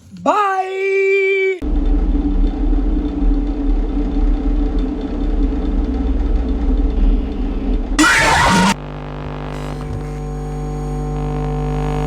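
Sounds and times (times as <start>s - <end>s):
low mechanical drone: 1.6s - 12.0s.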